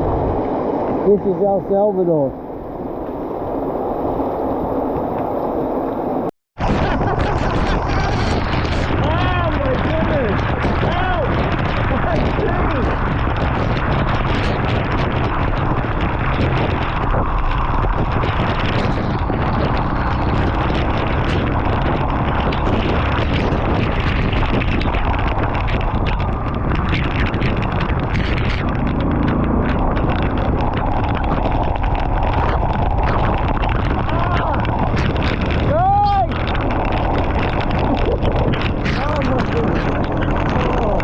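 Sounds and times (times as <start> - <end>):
motorbike road and engine noise: 0.0 - 41.0
wind buffeting microphone: 0.0 - 41.0.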